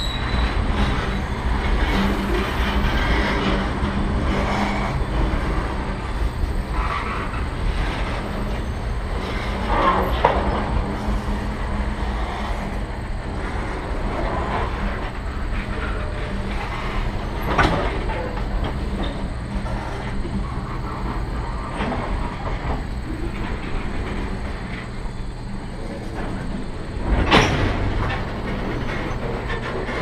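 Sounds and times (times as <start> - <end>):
train wheels rumbling on rail: 0.0 - 30.0
wheel squeal: 0.0 - 30.0.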